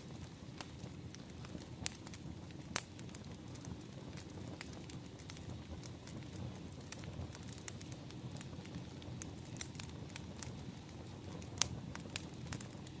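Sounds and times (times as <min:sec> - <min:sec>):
burning firewood crackling: 0:00.0 - 0:13.0.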